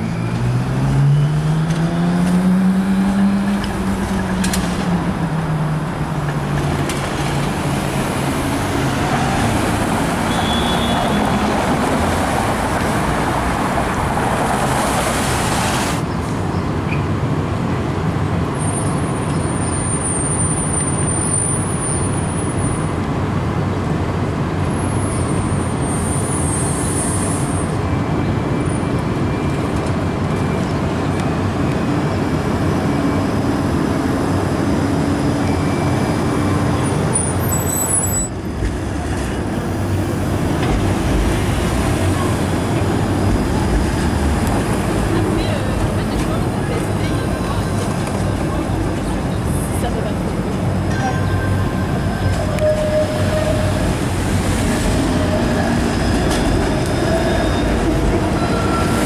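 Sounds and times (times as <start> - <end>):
street traffic: 0.0 - 59.0
streetcar rumbling on tracks: 0.0 - 59.0.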